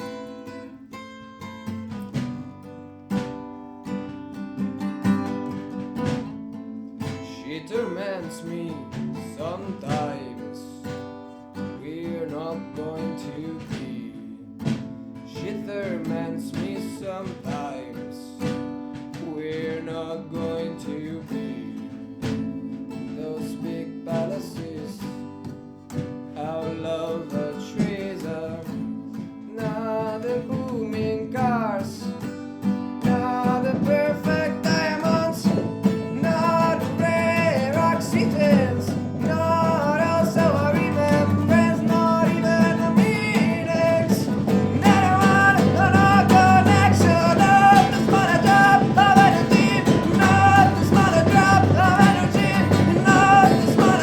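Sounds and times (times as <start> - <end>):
acoustic band music: 0.0 - 54.0.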